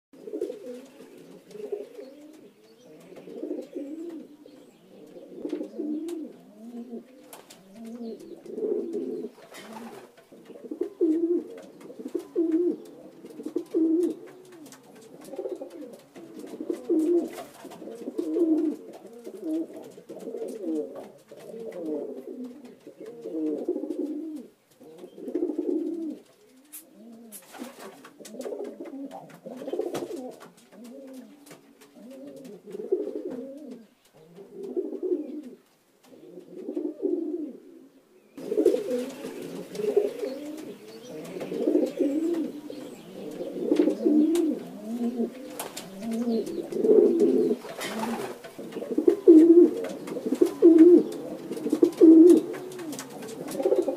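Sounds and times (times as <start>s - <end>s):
pigeons cooing: 0.2s - 53.9s.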